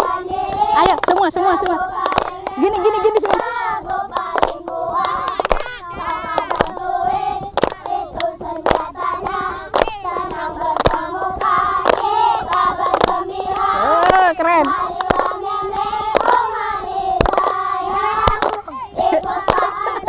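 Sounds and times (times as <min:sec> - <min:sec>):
children singing in unison: 0:00.0 - 0:14.0, 0:14.8 - 0:20.0
hand clapping: 0:00.0 - 0:20.0.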